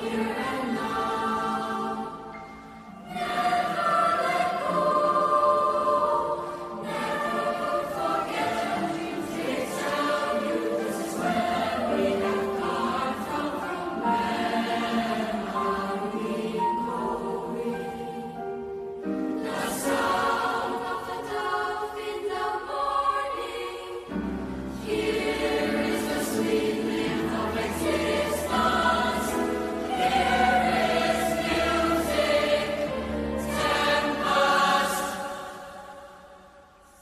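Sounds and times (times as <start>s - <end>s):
youth choir singing: 0.0s - 37.0s.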